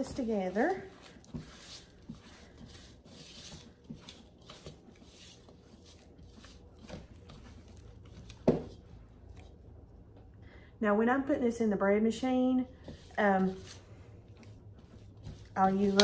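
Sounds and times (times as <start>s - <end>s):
spatula scraping dough in bowl: 0.0s - 9.6s, 12.6s - 16.0s.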